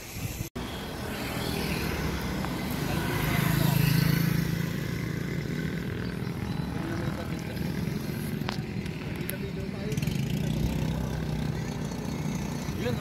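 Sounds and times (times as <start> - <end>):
road and wind noise: 0.0 - 13.0
vehicle engine hum: 0.4 - 13.0.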